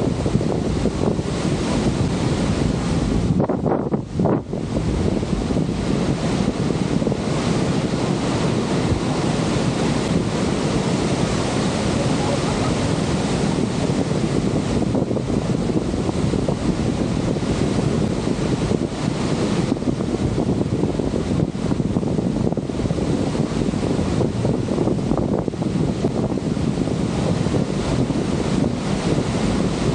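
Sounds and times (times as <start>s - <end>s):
waterfall rushing: 0.0s - 29.9s
wind buffeting the microphone: 0.0s - 29.9s.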